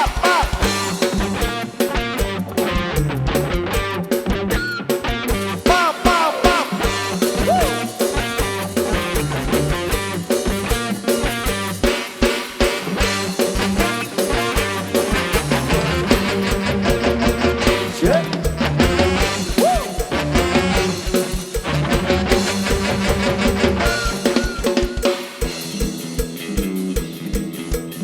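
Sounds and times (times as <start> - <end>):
drum kit beat: 0.0 - 28.0
electric guitar: 0.0 - 28.0
live band playing: 0.0 - 28.0.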